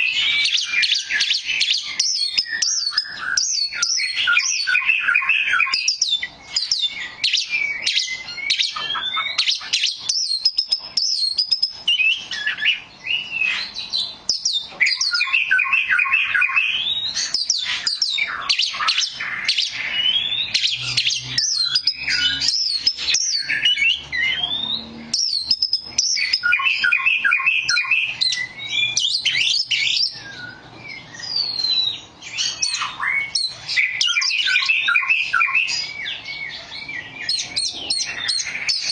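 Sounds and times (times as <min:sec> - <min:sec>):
songbird whistling and chirping: 0:00.0 - 0:38.9.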